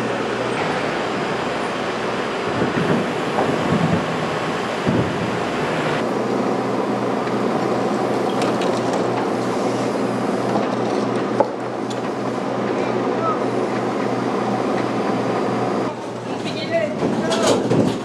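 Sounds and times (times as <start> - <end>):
machinery humming: 0.0 - 18.0.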